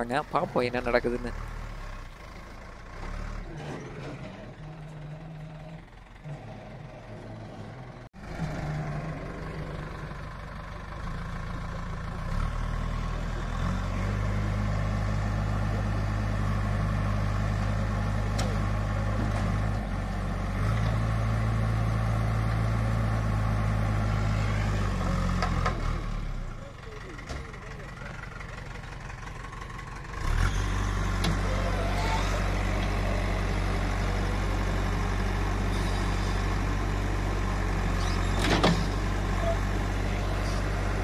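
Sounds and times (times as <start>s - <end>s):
diesel engine droning under load: 0.0s - 41.0s.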